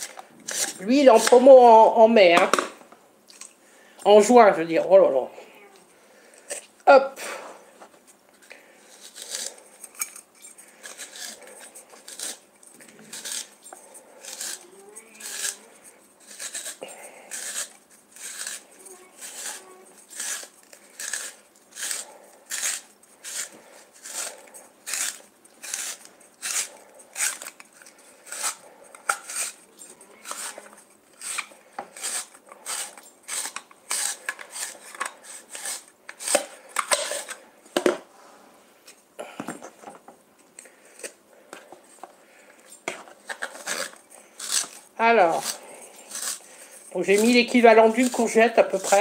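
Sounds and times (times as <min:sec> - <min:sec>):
spiralizer scraping vegetable: 0:00.0 - 0:01.9, 0:08.4 - 0:37.5, 0:40.6 - 0:49.0.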